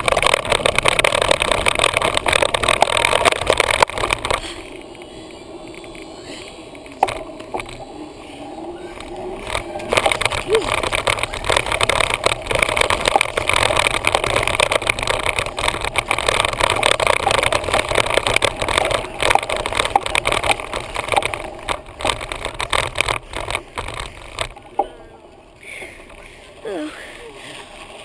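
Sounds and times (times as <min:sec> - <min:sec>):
wind rumbling on microphone: 0:00.0 - 0:26.2.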